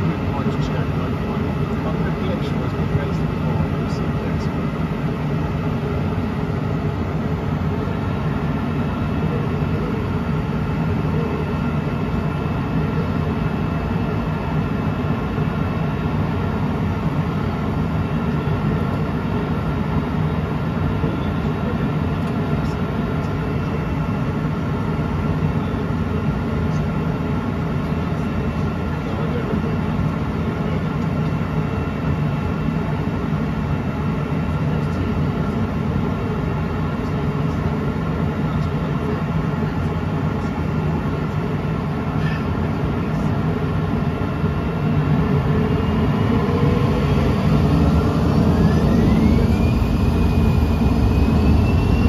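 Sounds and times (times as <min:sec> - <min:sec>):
jet engines idling drone: 0:00.0 - 0:52.0.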